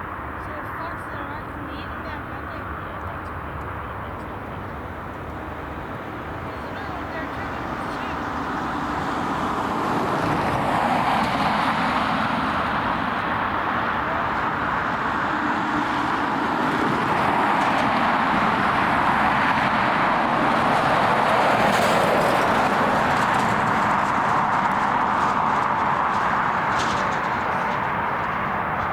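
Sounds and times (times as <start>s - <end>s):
jet engine rushing: 0.9s - 28.9s.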